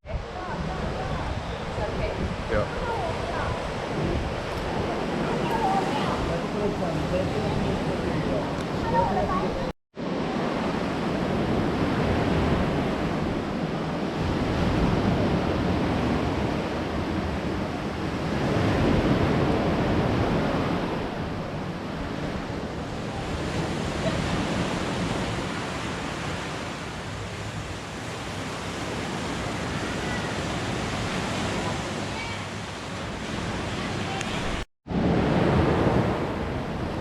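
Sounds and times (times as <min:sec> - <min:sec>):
sea waves washing onto beach: 0:00.0 - 0:37.0.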